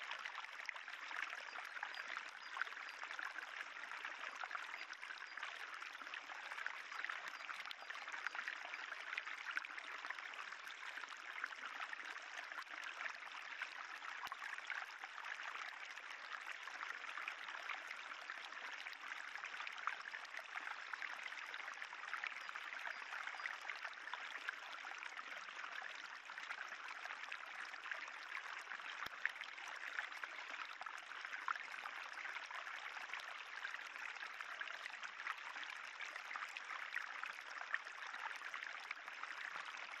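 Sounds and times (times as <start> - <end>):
water trickling: 0.1 - 39.9.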